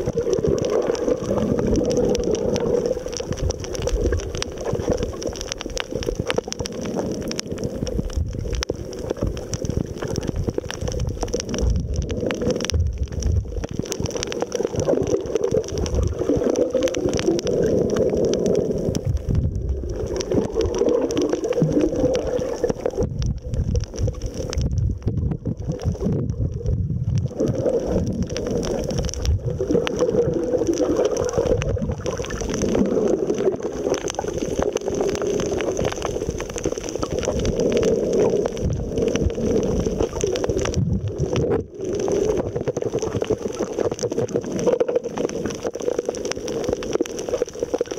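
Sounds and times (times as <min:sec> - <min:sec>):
underwater water sloshing: 0:00.0 - 0:47.9.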